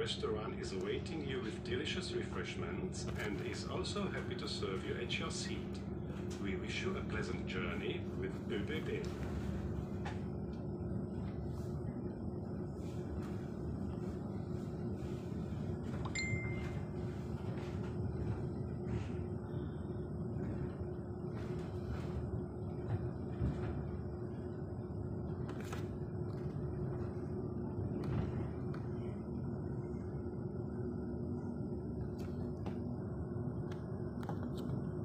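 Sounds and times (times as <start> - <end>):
train rumbling at speed: 0.0 - 35.0.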